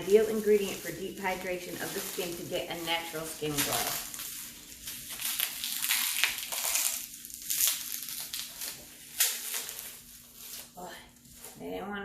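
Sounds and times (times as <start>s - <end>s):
bubble wrap crinkling: 0.0s - 11.8s.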